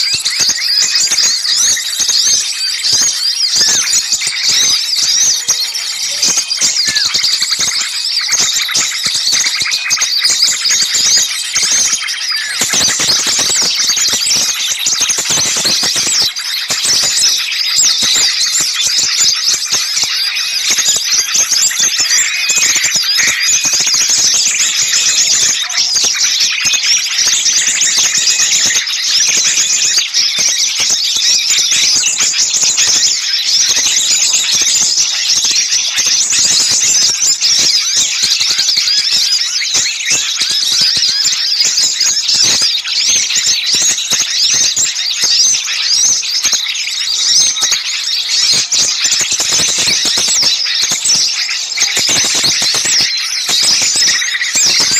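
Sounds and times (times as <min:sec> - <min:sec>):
small birds chattering and alarm-calling: 0:00.0 - 0:54.9.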